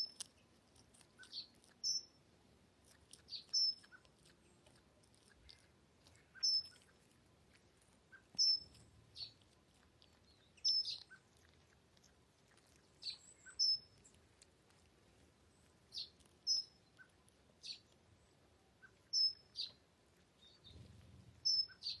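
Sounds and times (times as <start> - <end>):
bird chirping: 0.0 - 2.2, 3.1 - 7.1, 8.1 - 14.4, 15.2 - 22.0.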